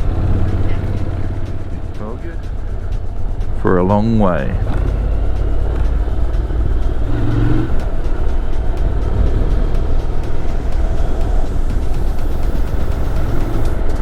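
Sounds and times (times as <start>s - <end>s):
motorcycle engine running: 0.0s - 14.0s
wind rushing: 0.0s - 14.0s.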